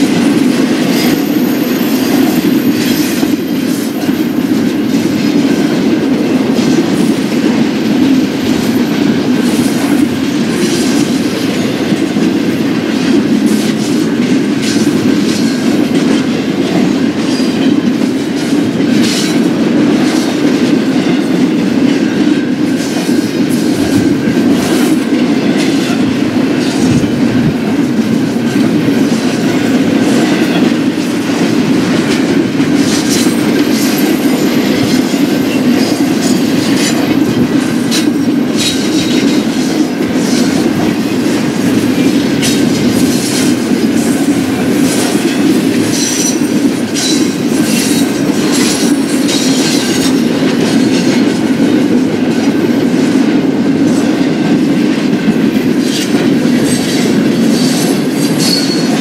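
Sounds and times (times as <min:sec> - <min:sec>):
train cars rolling past: 0:00.0 - 0:59.0
wheels clicking over rail joints: 0:00.0 - 0:59.0.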